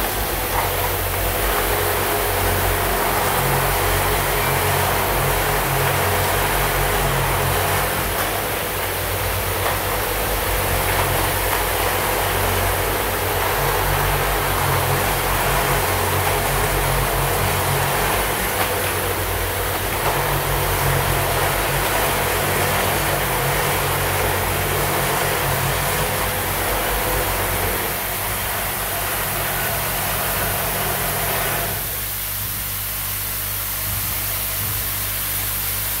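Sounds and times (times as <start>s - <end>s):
assembly machine buzz and hum: 0.0s - 36.0s.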